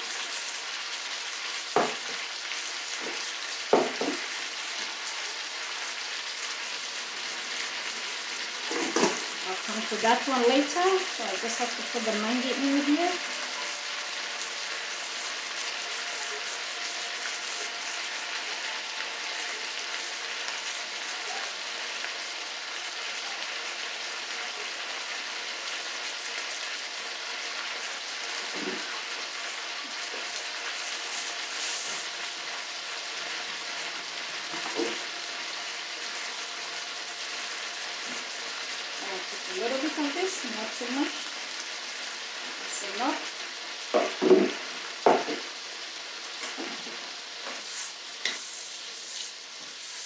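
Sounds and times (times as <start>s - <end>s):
vegetables sizzling in oil: 0.0s - 50.0s.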